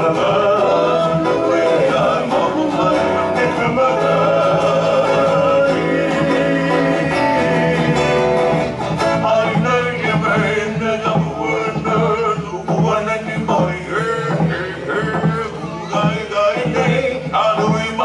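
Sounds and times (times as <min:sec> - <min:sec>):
person singing: 0:00.0 - 0:08.4, 0:09.1 - 0:18.0
guitar and ukulele: 0:00.0 - 0:18.0.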